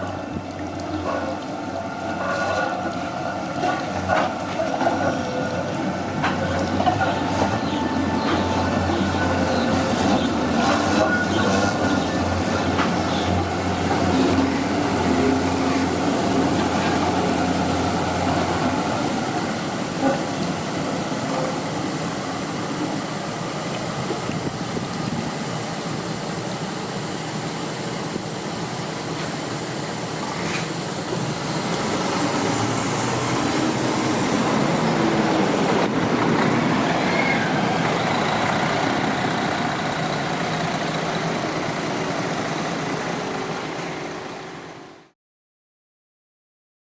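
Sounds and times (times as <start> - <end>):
tram electrical hum: 0.0 - 45.1
tram rolling rumble: 0.0 - 45.1.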